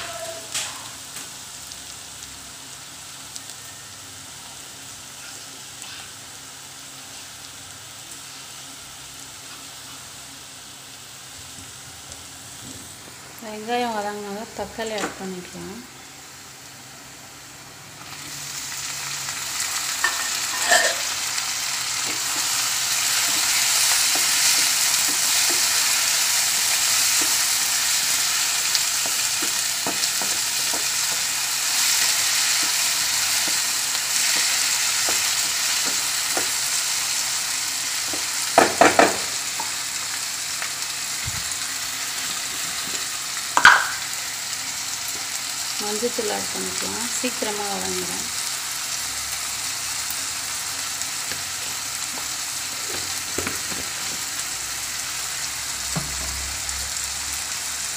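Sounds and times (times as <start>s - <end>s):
tomatoes sizzling in hot oil: 0.0s - 57.9s.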